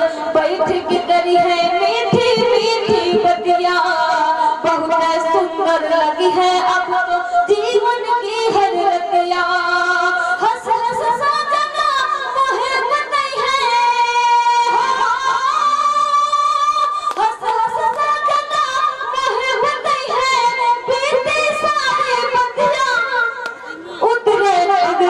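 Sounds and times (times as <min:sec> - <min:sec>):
woman singing into a microphone: 0:00.0 - 0:25.0.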